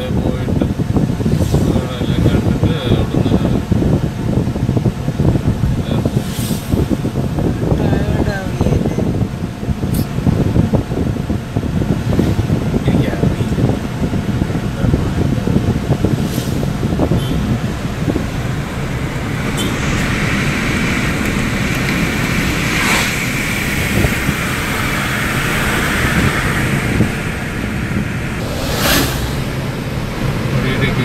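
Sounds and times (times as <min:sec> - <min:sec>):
car driving on road: 0:00.0 - 0:31.0.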